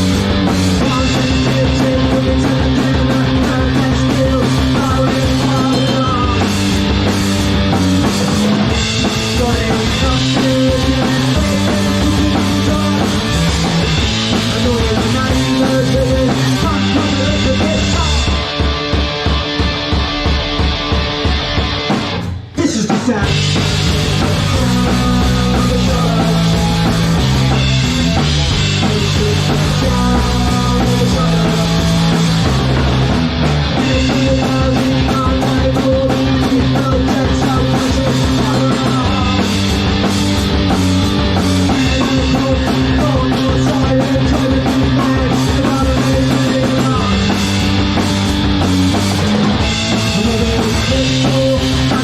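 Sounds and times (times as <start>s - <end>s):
driving drum kit: 0.0s - 52.0s
punk rock band playing: 0.0s - 52.0s.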